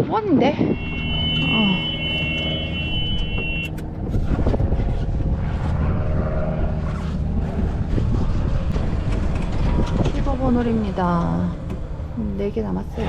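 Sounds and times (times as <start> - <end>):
golf cart rumble: 0.7 - 13.0.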